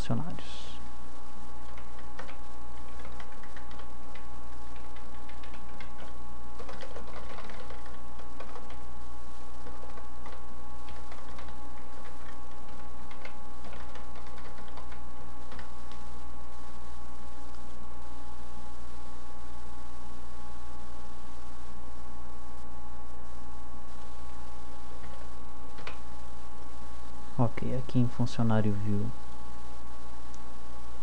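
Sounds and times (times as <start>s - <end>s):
electrical hum: 0.0s - 31.0s
faint constant whine: 0.0s - 31.0s.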